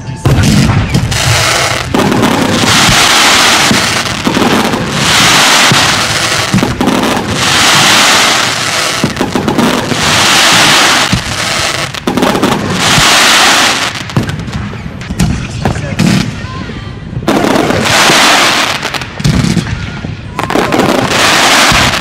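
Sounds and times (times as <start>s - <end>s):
firework crackling bursts: 0.2s - 16.4s, 17.3s - 22.0s.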